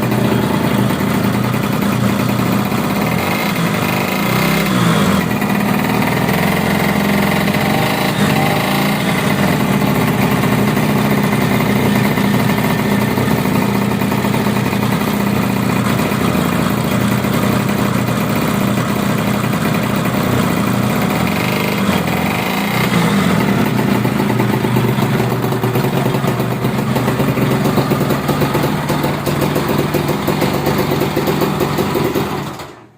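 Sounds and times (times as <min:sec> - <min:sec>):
two-stroke motorcycle engine running: 0:00.0 - 0:32.9.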